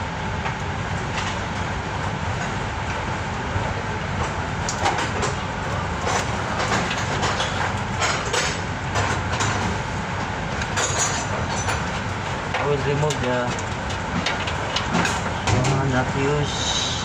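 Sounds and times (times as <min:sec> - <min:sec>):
mechanical rumble with hum: 0:00.0 - 0:17.0.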